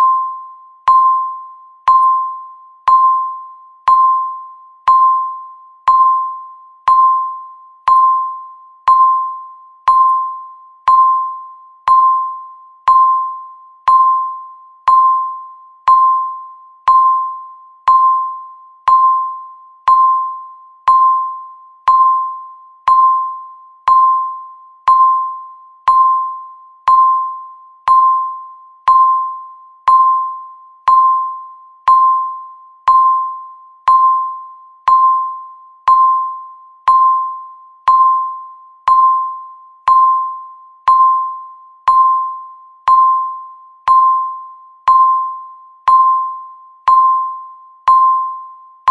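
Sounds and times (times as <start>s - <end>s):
countdown timer beeps: 0.0s - 48.9s.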